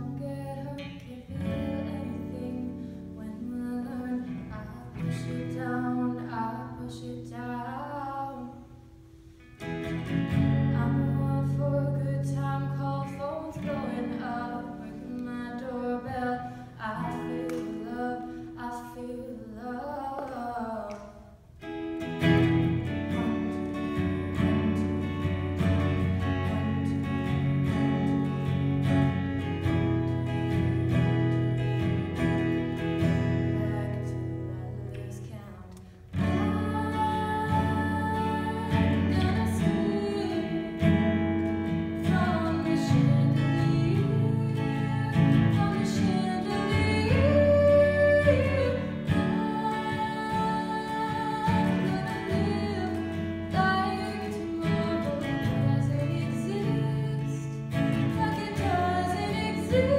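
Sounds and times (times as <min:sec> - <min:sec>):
woman singing: 0:00.0 - 0:08.9, 0:09.9 - 0:21.4, 0:22.2 - 0:59.9
acoustic guitar strumming: 0:00.0 - 0:59.9.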